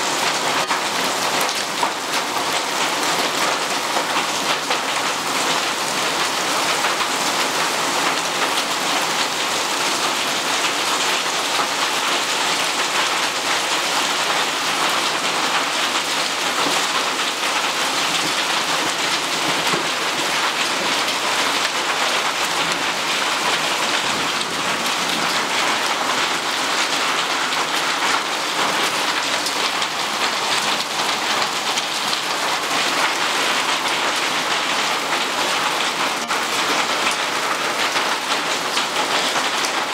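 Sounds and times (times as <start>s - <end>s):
hail and rain on roof tiles: 0.0s - 39.9s.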